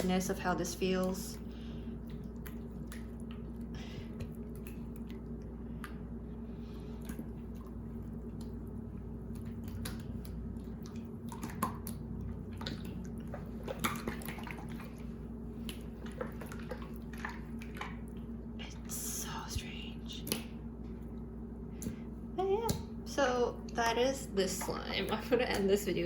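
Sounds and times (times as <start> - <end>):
slime squelching by hand: 0.0 - 23.0.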